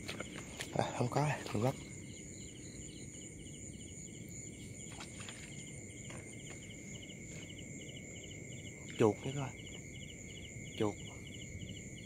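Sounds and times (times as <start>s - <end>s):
crickets and insects trilling: 0.0s - 12.0s
quick insect chirp: 0.0s - 12.0s.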